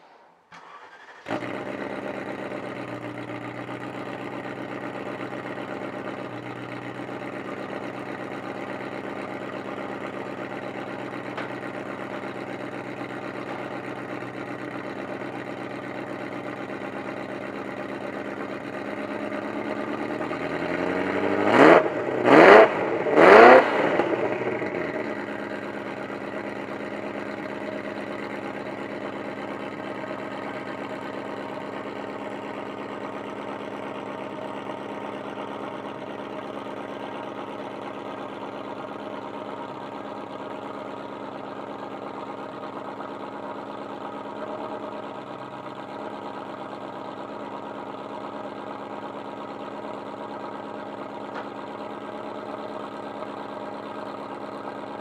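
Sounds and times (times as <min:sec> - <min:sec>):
sports car engine idling and revving: 0:00.5 - 0:55.0.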